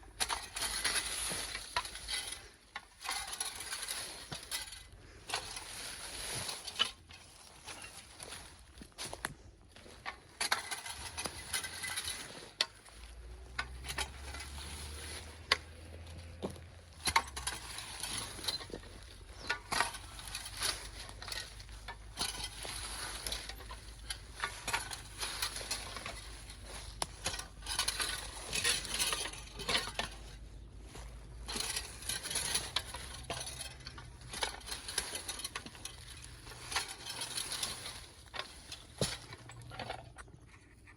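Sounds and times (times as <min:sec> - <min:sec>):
dry branches rustling and crackling: 0:00.0 - 0:40.2.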